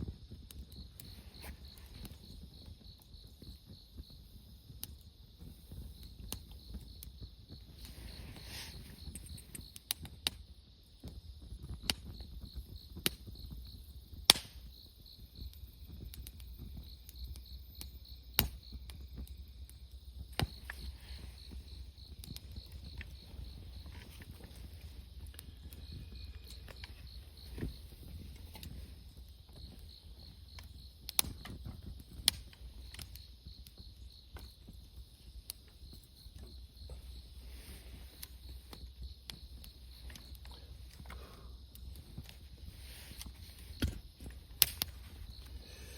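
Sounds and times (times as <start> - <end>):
insects chirping: 0.0 - 45.9
wood fire crackling and popping: 0.0 - 45.9.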